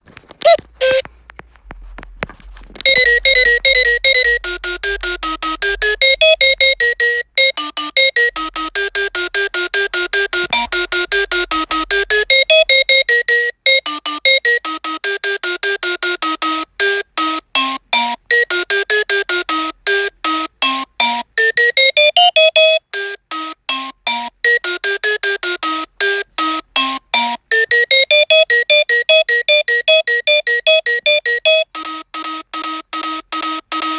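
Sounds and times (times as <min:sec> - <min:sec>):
electronic alarm melody beeps: 0:00.4 - 0:01.0, 0:02.8 - 0:33.9.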